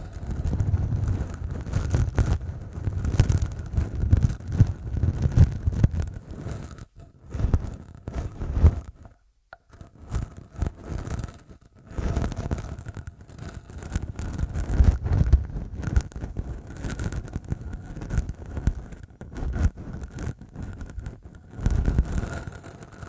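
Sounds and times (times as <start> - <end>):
stubble scraping against microphone: 0.0 - 23.0.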